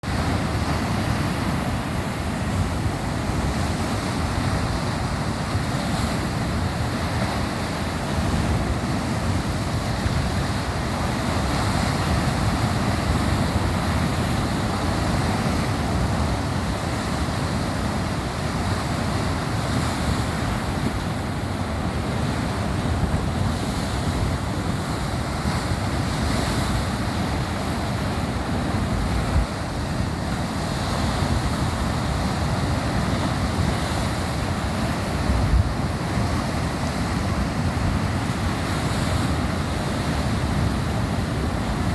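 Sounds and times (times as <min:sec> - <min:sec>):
ocean waves breaking: 0:00.0 - 0:41.9.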